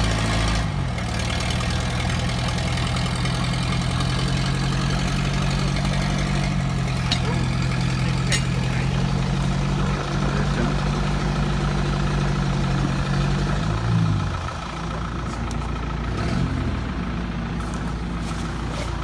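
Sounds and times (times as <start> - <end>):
off-road engine idling and revving: 0.0 - 19.0.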